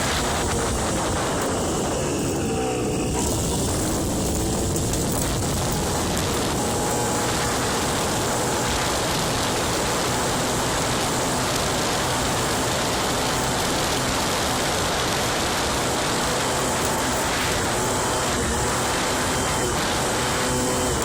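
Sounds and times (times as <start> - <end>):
faint scooter engine tone: 0.0 - 21.0
wind and road noise: 0.0 - 21.0.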